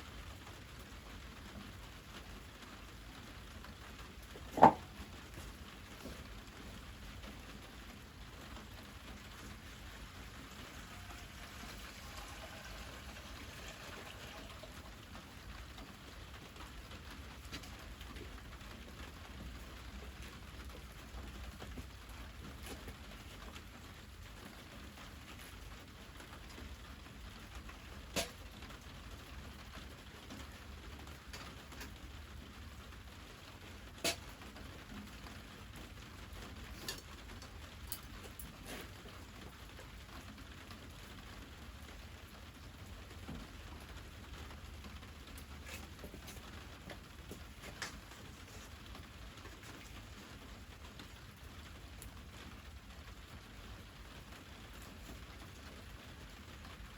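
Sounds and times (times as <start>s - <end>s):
wood fire crackling and popping: 0.3s - 56.8s.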